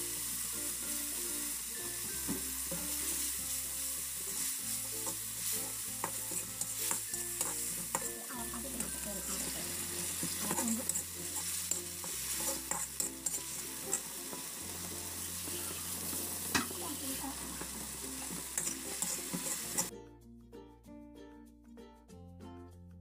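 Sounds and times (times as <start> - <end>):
paste sizzling in hot oil: 0.0 - 19.9
spatula scraping a wok: 0.0 - 19.9.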